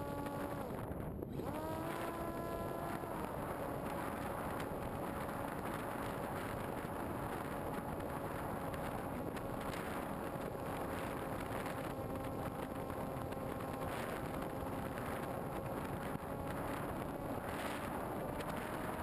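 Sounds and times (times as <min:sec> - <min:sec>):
model plane motor droning: 0:00.0 - 0:19.0
wind rushing over microphone: 0:00.0 - 0:19.0.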